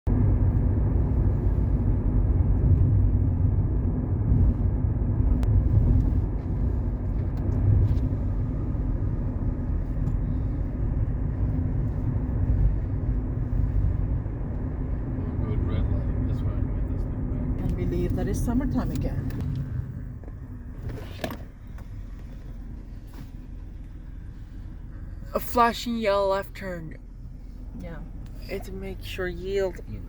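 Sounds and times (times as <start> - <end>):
car driving rumble: 0.0 - 30.0.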